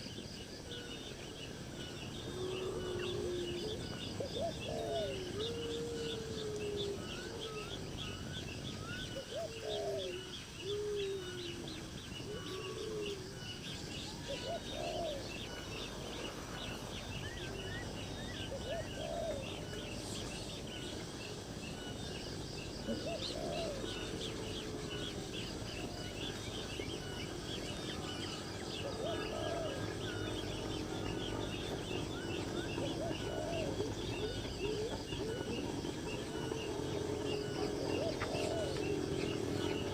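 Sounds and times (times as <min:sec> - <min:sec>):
rising and falling bird calls: 0:00.6 - 0:39.9.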